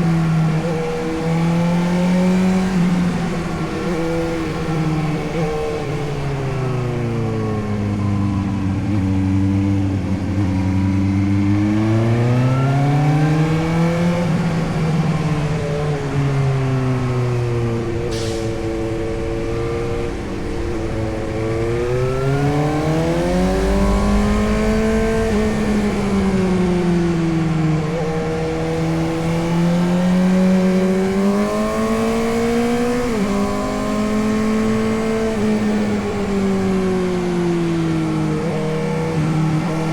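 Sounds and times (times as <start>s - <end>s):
motorcycle engine revving: 7.8s - 39.9s.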